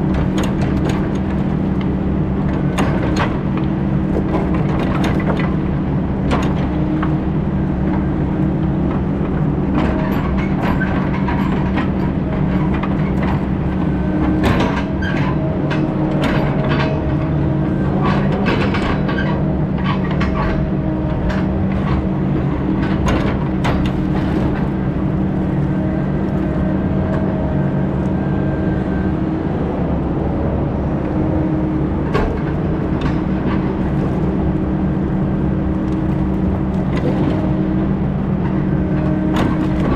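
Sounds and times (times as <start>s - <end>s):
heavy diesel machine running: 0.0s - 39.9s.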